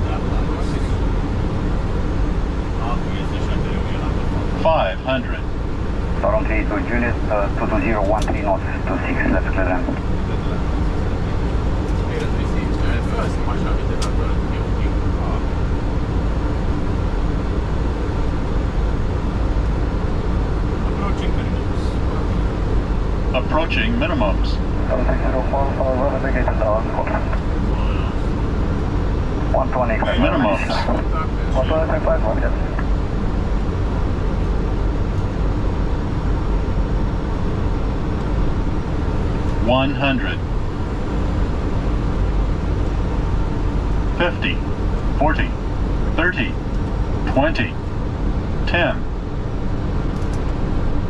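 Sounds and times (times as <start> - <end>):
airflow and jet engines rushing: 0.0 - 51.0.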